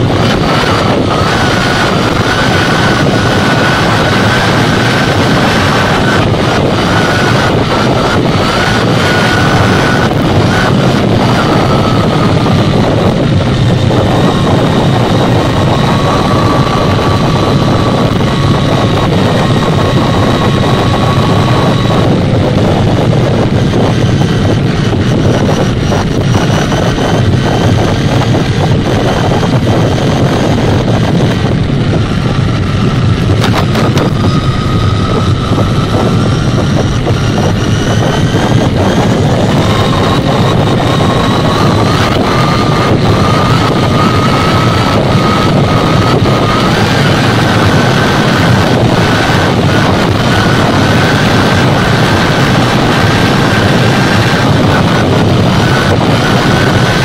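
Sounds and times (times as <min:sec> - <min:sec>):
electric motor whine: 0:00.0 - 0:57.0
tyre and wind rush: 0:00.0 - 0:57.0.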